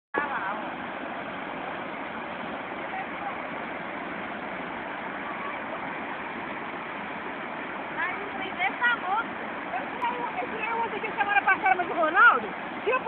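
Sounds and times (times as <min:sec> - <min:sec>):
waterfall roaring: 0:00.2 - 0:13.0.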